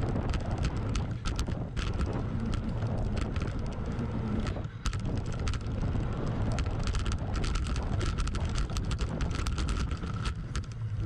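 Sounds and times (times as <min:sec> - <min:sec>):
bicycle tyre noise on dirt: 0:00.0 - 0:11.0
bike clicks and rattles: 0:00.0 - 0:11.0
wind on microphone: 0:00.0 - 0:11.0.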